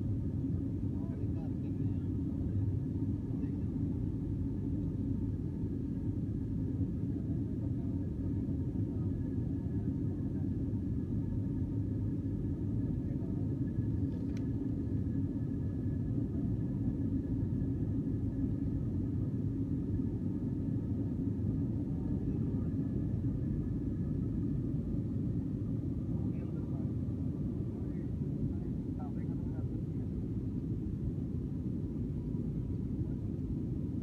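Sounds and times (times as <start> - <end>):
airliner engine and airflow rumble: 0.0 - 34.0.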